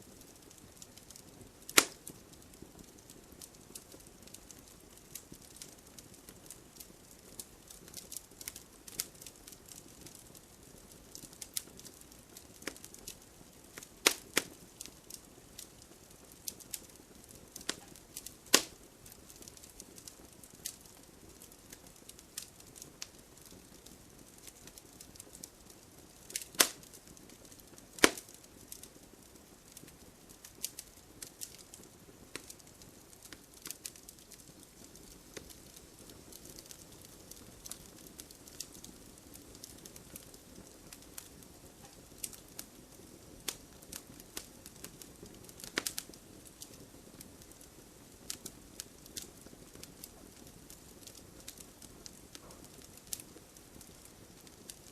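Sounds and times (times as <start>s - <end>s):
wood fire crackling: 0.0s - 54.9s
fire pops: 0.3s - 54.9s.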